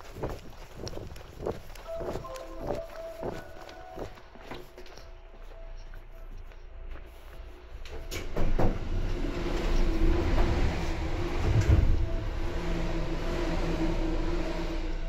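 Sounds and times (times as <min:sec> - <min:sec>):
steady train hum: 0:00.0 - 0:15.0
train clattering: 0:00.0 - 0:15.0
train rumbling on rails: 0:00.0 - 0:15.0.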